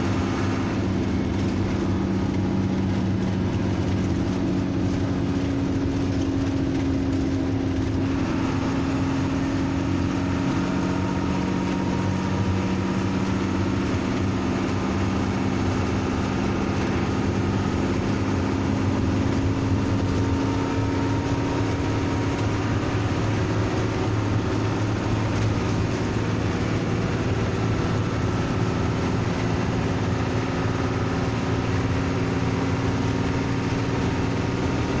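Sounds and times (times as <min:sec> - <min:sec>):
bus diesel engine humming: 0:00.0 - 0:35.0.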